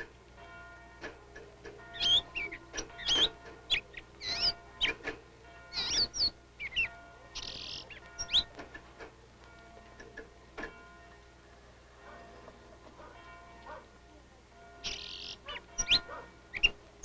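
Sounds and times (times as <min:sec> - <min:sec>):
songbird chirping: 0:01.2 - 0:17.0.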